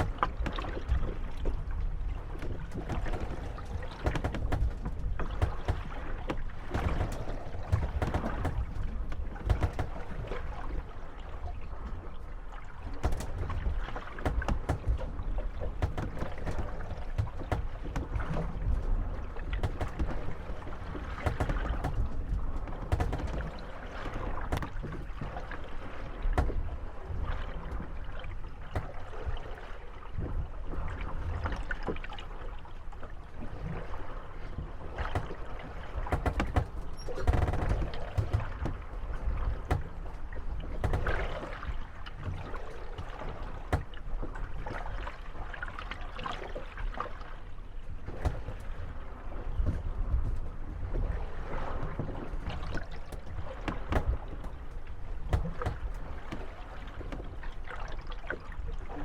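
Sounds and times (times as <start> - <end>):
wooden hulls creaking and knocking: 0.0 - 59.0.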